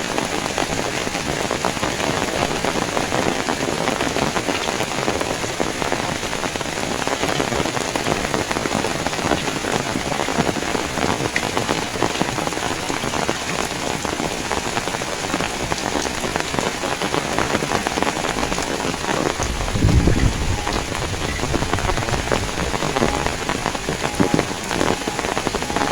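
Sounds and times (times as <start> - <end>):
heavy rain pouring: 0.0 - 25.9.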